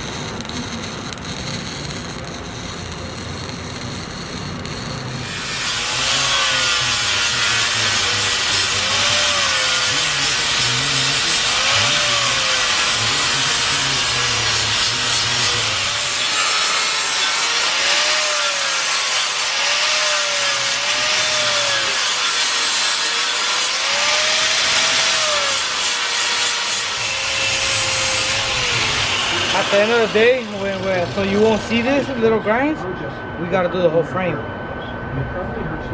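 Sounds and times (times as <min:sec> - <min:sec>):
angle grinder grinding metal: 0:00.0 - 0:32.1.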